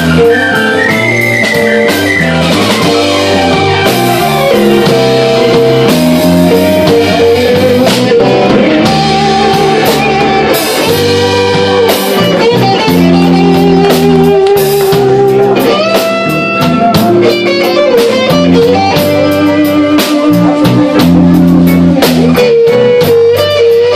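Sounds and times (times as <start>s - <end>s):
bass: 0.0s - 23.9s
drum kit with cymbals: 0.0s - 23.9s
electric guitar held notes: 0.0s - 23.9s
keyboard: 0.0s - 23.9s.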